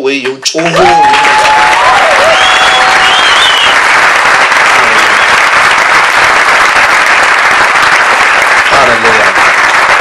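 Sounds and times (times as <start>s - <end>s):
crowd clapping and cheering: 0.6s - 10.0s.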